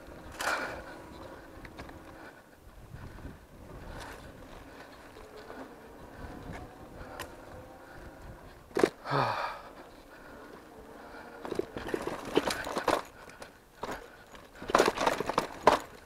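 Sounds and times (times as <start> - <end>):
bike rattling: 0.0 - 16.0
tyres rumbling on sandy trail: 0.0 - 16.0.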